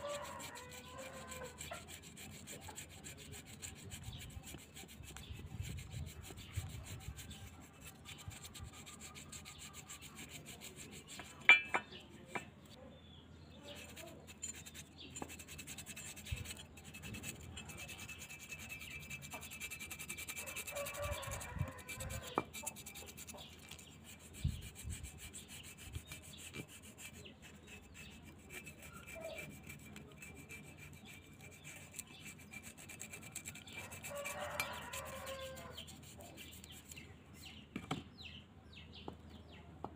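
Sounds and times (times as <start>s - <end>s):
brush scrubbing wet metal: 0.0s - 12.7s, 13.6s - 37.0s.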